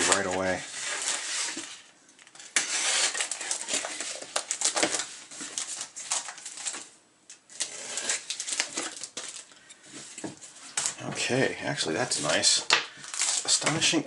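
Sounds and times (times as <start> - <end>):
plastic bags and cardboard crinkling: 0.0 - 14.0.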